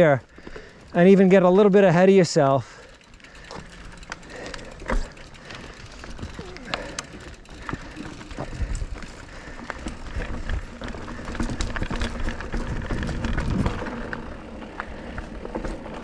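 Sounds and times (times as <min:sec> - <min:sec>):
bike rattling and clicking: 0:00.0 - 0:16.0.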